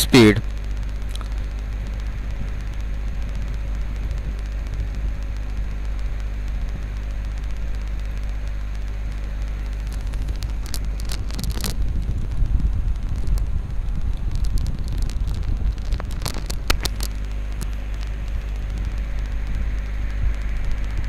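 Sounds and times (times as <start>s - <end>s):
low rumbling background noise: 0.0s - 21.0s
sharp clicks: 0.0s - 21.0s.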